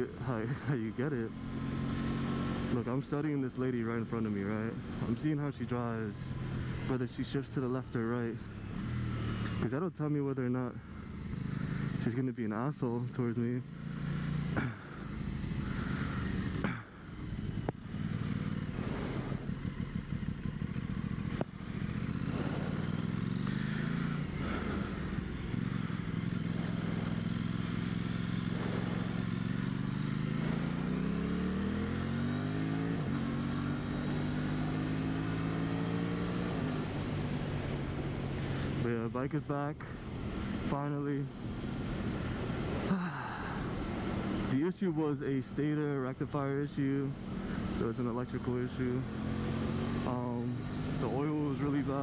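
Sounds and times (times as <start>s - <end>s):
motorcycle engine revving: 0.0s - 9.8s, 10.7s - 12.2s, 13.4s - 44.7s, 45.6s - 52.0s.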